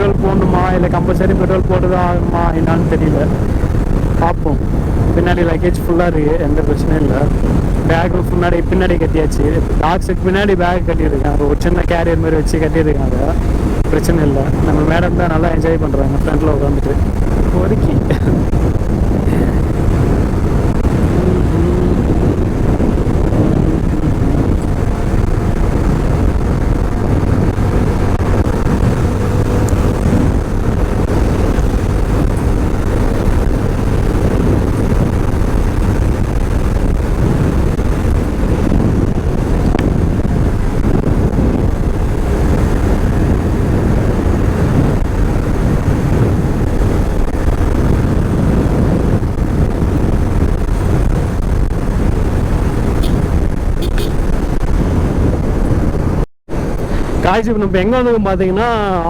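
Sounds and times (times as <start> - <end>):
motorcycle engine at speed: 0.0 - 57.2
road and wind noise: 0.0 - 59.0.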